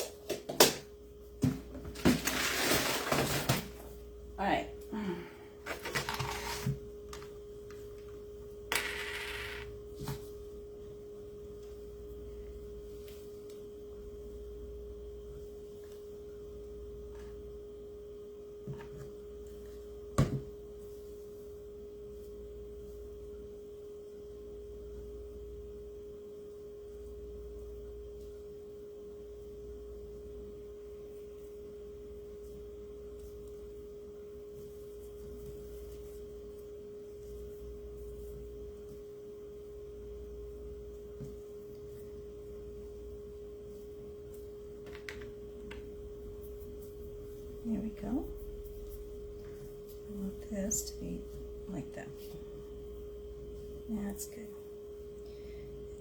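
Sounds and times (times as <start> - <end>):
faint single-pitched hum: 3.5 - 56.0.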